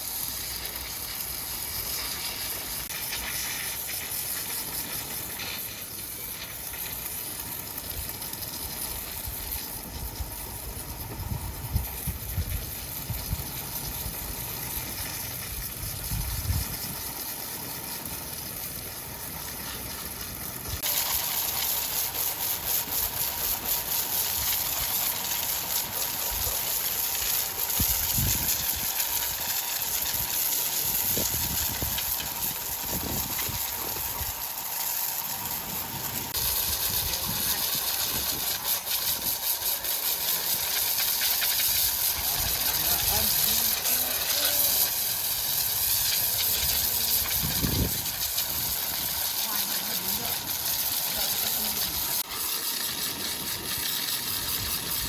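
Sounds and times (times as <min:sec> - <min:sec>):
sawmill machinery running: 0:00.0 - 0:55.0
steady whine: 0:00.0 - 0:55.0.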